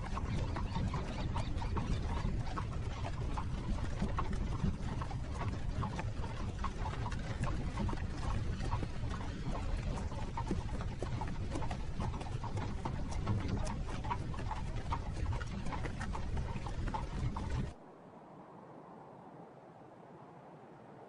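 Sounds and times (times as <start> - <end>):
carriage rolling rumble: 0.0 - 17.8
horse hooves clip-clopping: 0.0 - 17.8.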